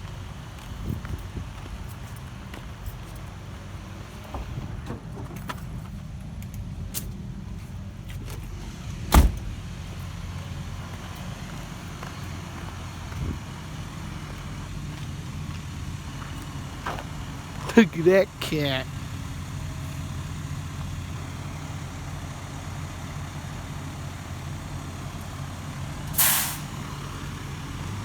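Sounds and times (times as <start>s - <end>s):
bulldozer diesel engine rumbling: 0.0s - 28.0s.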